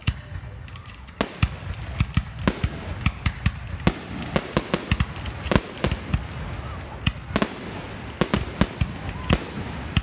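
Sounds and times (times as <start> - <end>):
firework bangs and pops: 0.0 - 10.0.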